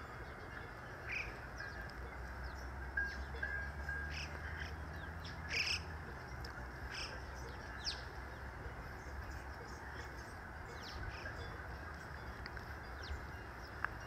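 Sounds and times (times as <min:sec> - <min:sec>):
birds chirping: 0:00.0 - 0:14.0
low outdoor rumble: 0:00.0 - 0:14.0.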